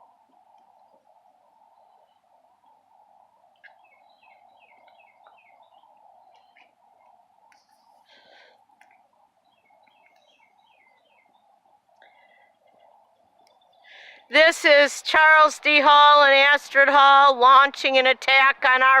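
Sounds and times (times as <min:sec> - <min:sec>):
faint background hiss: 0:00.0 - 0:19.0
songbird chirping: 0:00.0 - 0:19.0.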